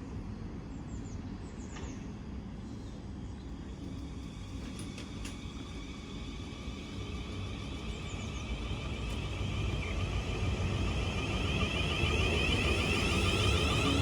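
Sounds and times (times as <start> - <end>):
passenger train approaching: 2.2 - 14.0.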